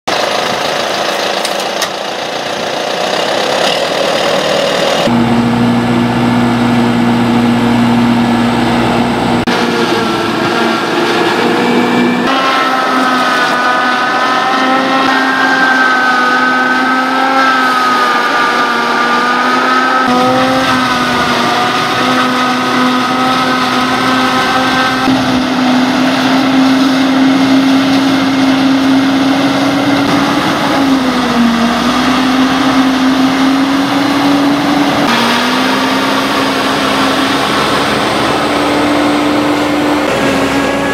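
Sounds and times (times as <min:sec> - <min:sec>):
tractor engine running: 0:00.0 - 0:40.9
harvester whining: 0:00.1 - 0:40.9.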